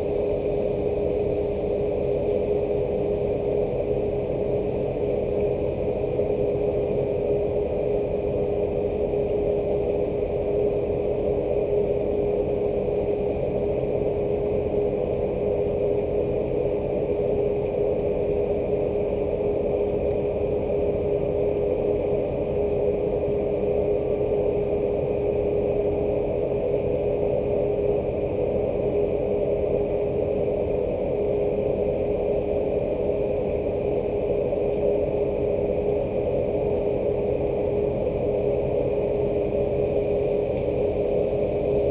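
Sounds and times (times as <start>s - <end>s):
constant mechanical hum: 0.0s - 41.9s.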